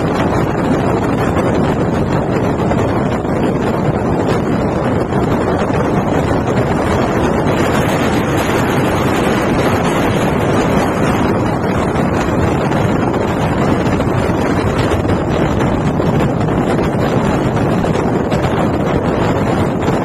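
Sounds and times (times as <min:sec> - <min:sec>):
bus engine and road rumble: 0:00.0 - 0:20.0
wind on microphone: 0:00.0 - 0:20.0.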